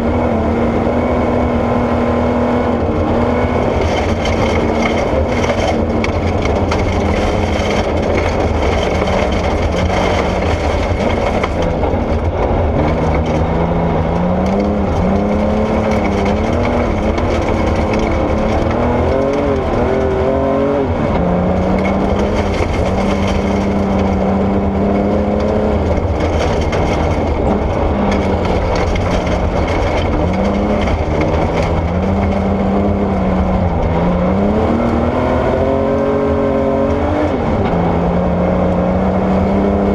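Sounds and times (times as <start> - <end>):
car rumbling on gravel: 0.0 - 39.9
rally car engine revving: 0.0 - 39.9.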